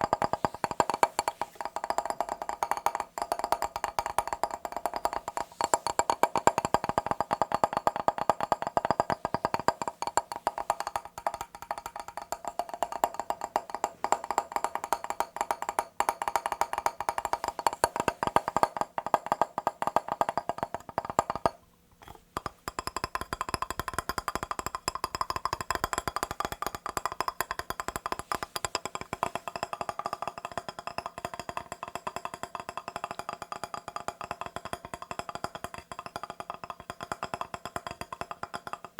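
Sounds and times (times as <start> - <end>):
tapping on glass: 0.0 - 38.9.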